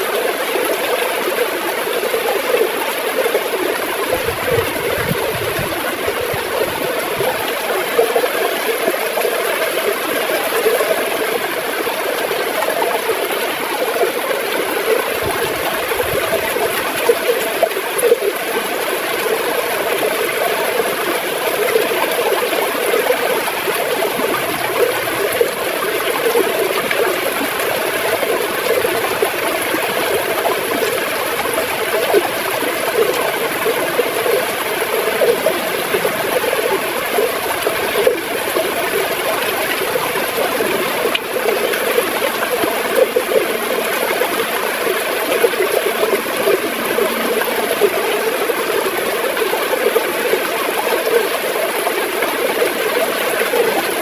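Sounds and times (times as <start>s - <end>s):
river water gurgling: 0.0s - 54.0s.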